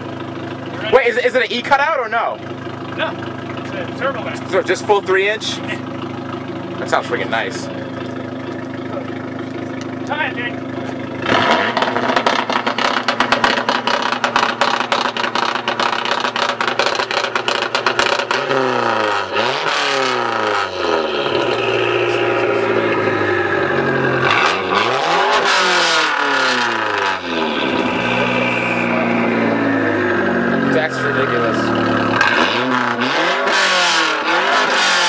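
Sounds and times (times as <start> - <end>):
car engine idling: 0.0 - 35.0
car engine revving: 0.0 - 35.0.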